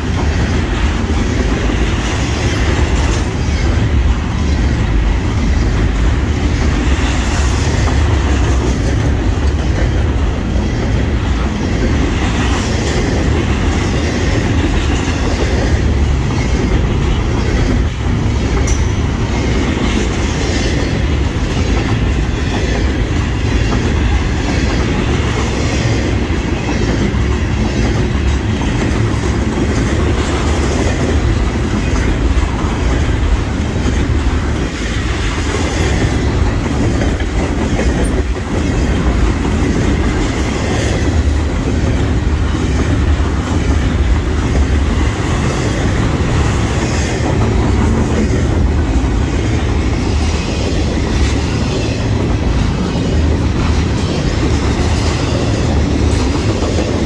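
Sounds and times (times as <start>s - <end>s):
train wheels rumbling: 0.0s - 57.0s
wheels clickety-clack on rail joints: 0.0s - 57.0s.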